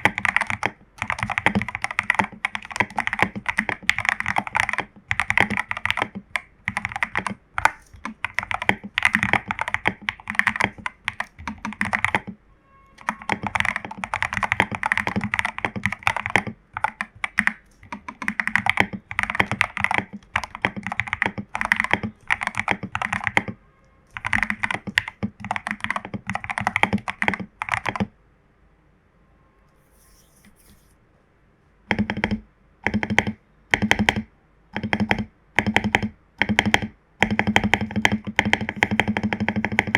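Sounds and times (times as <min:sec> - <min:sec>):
mechanical keyboard typing: 0:00.0 - 0:12.4, 0:13.0 - 0:28.1, 0:31.9 - 0:39.9.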